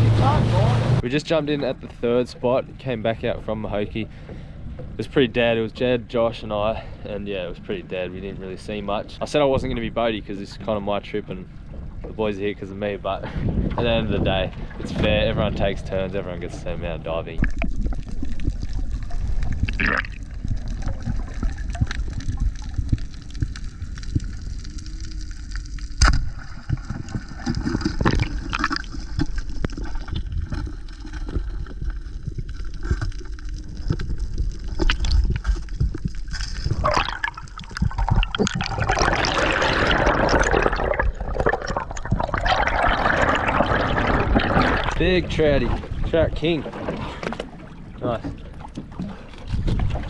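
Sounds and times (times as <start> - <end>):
low rumble: 0.0 - 50.0
water gurgling and sloshing: 0.0 - 50.0.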